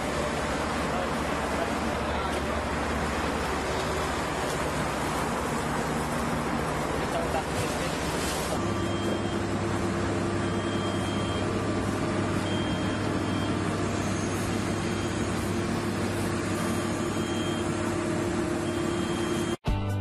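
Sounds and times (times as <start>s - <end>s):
diesel engine running steadily: 0.0s - 19.6s.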